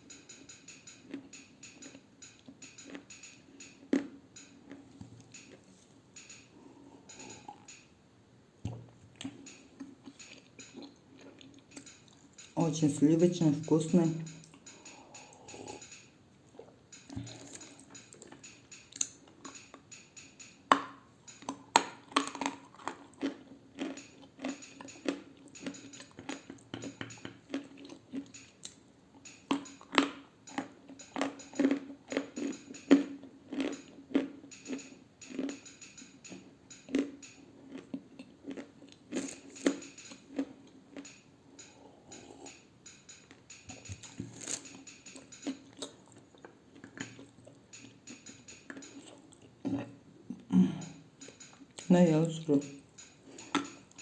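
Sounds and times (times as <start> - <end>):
soft chewing: 0.0 - 7.9, 8.6 - 54.0.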